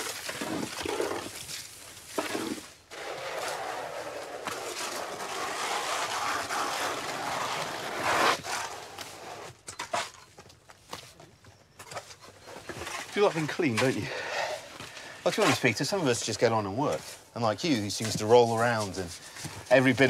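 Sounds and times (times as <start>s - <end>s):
shovels scraping sand and mortar: 0.0s - 10.2s, 12.0s - 20.0s.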